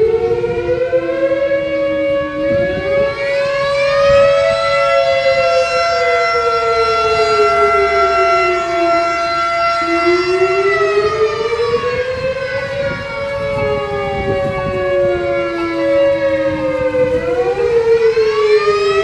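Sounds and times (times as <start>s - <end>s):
fire station alarm sirens: 0.0s - 19.0s.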